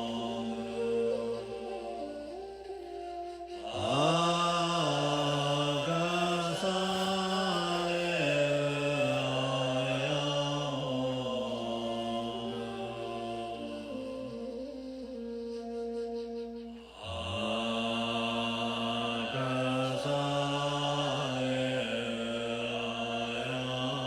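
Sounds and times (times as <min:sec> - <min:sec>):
man chanting: 0:00.0 - 0:15.3, 0:16.8 - 0:24.0.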